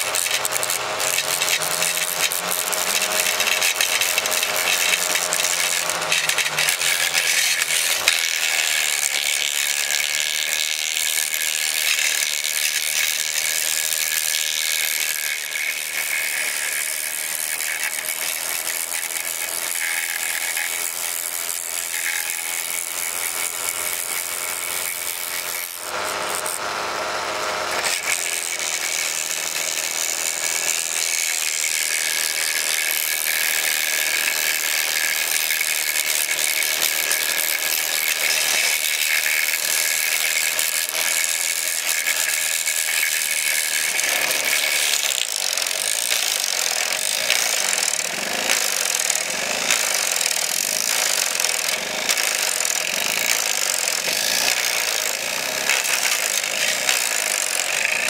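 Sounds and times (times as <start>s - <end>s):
model wood chipper whining and rattling: 0.0s - 58.0s.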